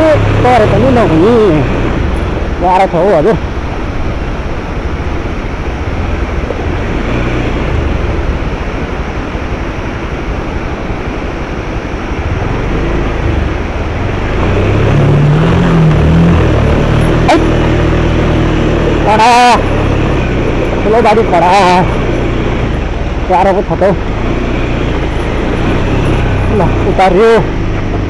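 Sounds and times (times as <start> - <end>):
motorcycle engine: 0.0 - 11.2, 12.0 - 28.0
stream rushing: 0.0 - 28.0.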